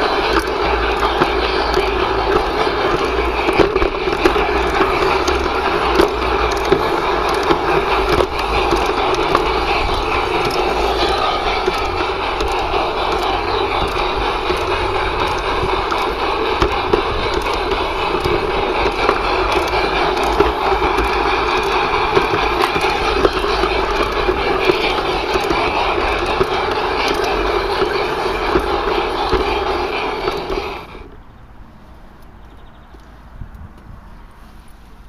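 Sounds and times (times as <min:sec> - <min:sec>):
model train rumble and whine: 0:00.0 - 0:35.0
small clicks of wheels: 0:00.0 - 0:35.0.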